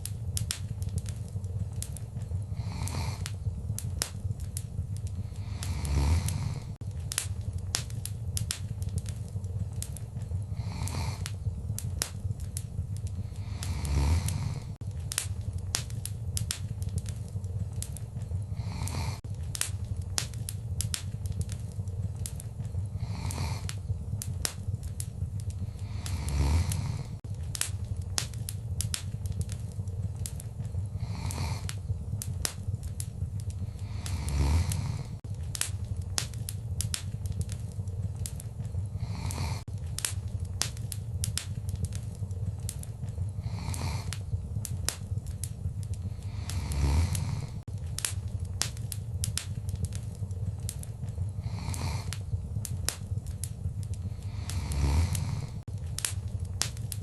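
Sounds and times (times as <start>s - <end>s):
fire roaring: 0.0s - 57.0s
wood fire crackling and popping: 0.0s - 57.0s.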